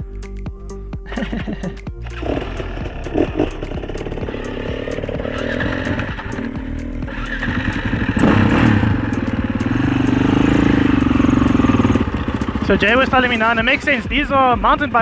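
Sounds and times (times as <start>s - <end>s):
dirt bike engine revving: 1.0s - 15.0s.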